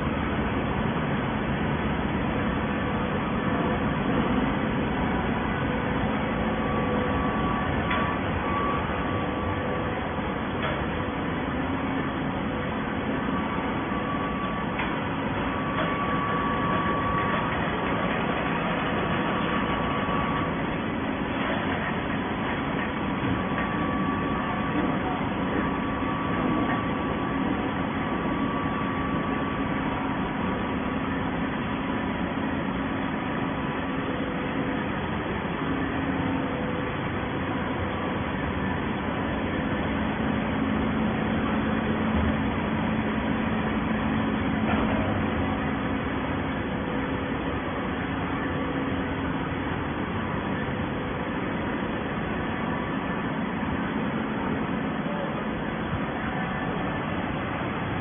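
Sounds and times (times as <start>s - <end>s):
baler machinery drone: 0.0s - 58.0s
faint machine whine: 0.0s - 58.0s.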